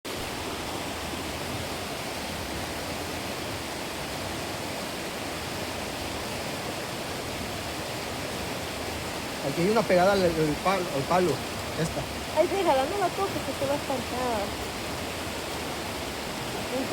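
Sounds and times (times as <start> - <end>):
running water rushing: 0.1 - 16.9.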